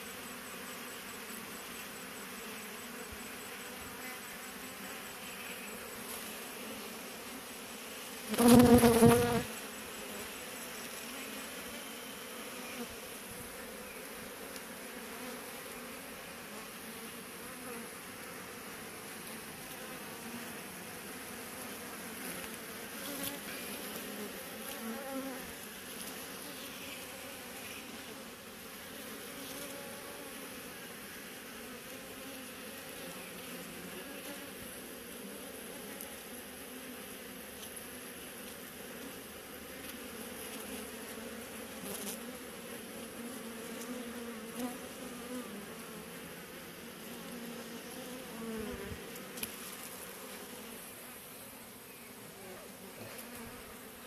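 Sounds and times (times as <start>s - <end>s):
honeybees buzzing: 0.0s - 54.0s.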